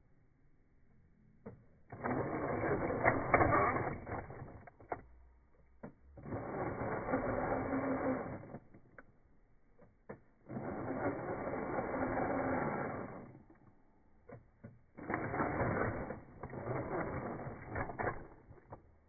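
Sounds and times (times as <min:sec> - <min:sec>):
sharp clicks: 0:01.4 - 0:19.0
small electric motor whirring: 0:01.4 - 0:19.0.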